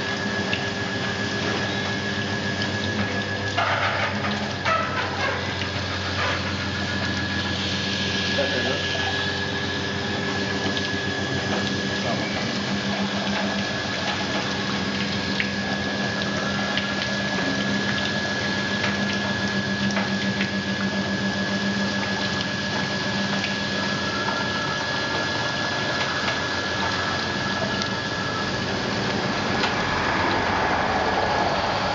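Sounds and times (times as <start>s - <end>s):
low machine hum: 0.0s - 31.9s
running water: 0.0s - 31.9s.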